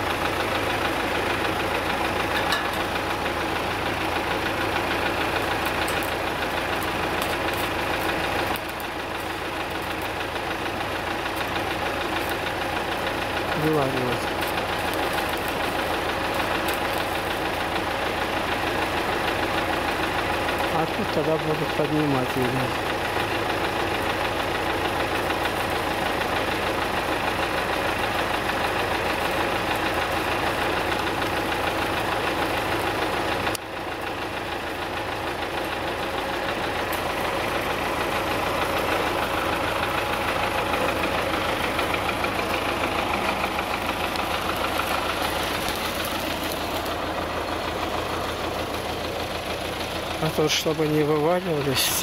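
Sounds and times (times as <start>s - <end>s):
engine idling: 0.0s - 52.0s.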